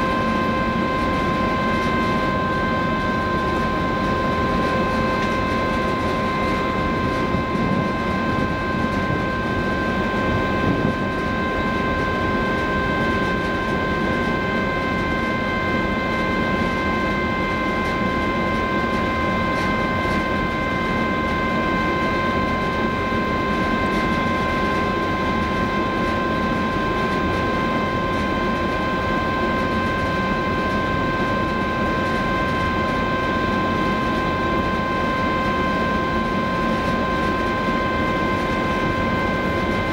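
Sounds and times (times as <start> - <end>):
ship machinery drone: 0.0 - 39.9.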